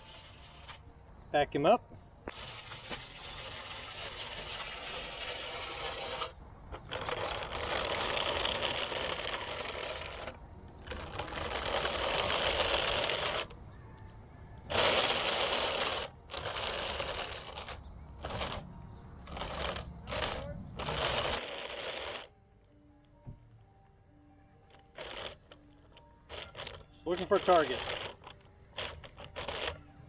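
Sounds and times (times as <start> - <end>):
robot wheels and motors on asphalt: 0.0 - 23.5, 24.7 - 30.0.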